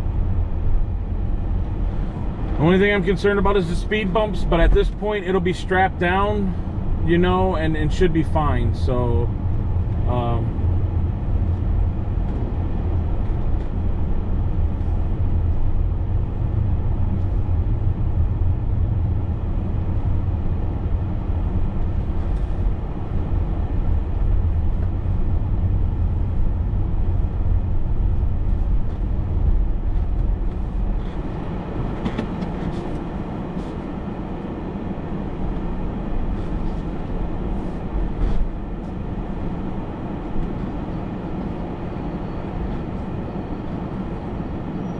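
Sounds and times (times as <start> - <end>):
vehicle engine and road rumble: 0.0 - 44.9.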